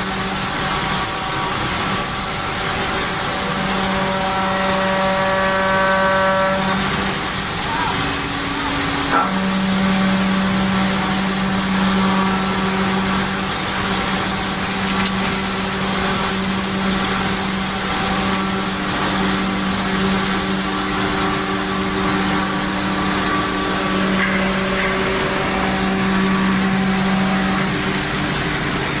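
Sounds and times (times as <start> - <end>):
router spindle cutting wood: 0.0 - 29.0.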